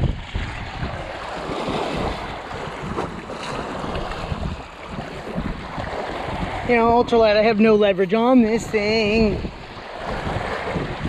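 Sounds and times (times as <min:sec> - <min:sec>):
water lapping against rocks: 0:00.0 - 0:11.0
wind buffeting microphone: 0:00.0 - 0:11.0.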